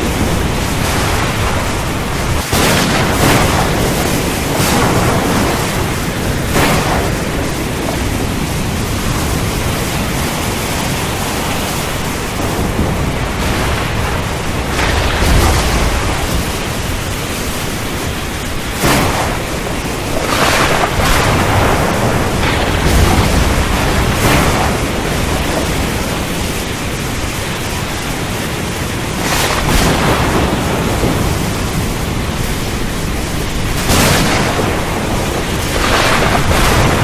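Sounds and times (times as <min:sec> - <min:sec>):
heavy rain: 0:00.0 - 0:37.0
low thunder rumbles: 0:00.0 - 0:37.0
wind: 0:00.0 - 0:37.0.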